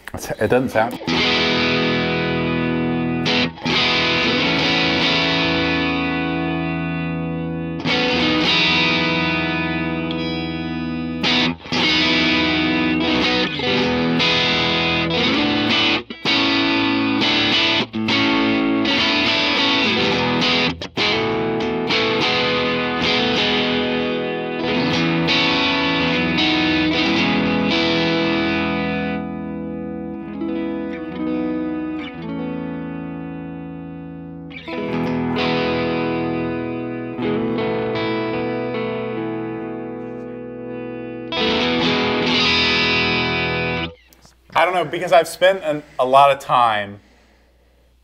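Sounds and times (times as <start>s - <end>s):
electric guitar strummed chords: 1.0s - 44.1s.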